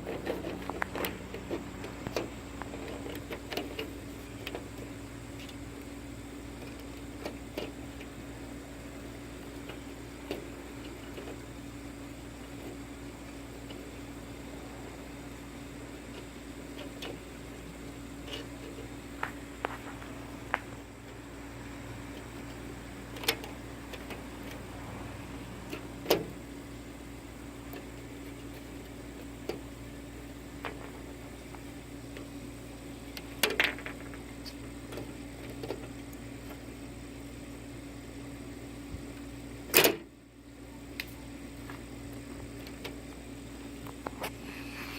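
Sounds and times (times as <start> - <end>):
steady machine hum: 0.0 - 44.9.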